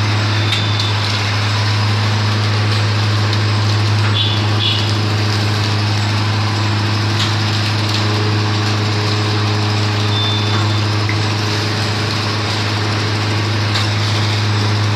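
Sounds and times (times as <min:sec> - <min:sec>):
machine electric hum: 0:00.0 - 0:14.9.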